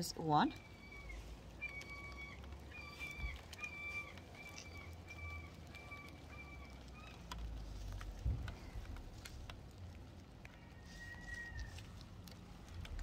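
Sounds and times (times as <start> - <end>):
low background rumble: 0.0 - 13.0
faint clicks: 0.5 - 13.0.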